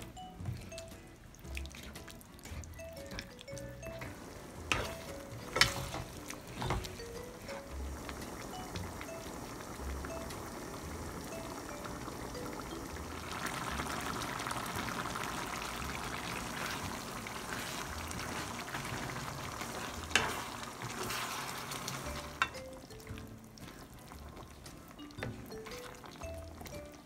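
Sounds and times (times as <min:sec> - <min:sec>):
spatula stirring in a wok: 0:00.0 - 0:09.2, 0:13.0 - 0:27.0
stew bubbling and sizzling: 0:00.0 - 0:27.0.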